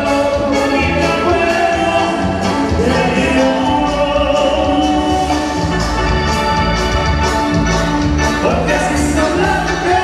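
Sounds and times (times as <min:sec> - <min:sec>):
band playing dance music: 0:00.0 - 0:10.0.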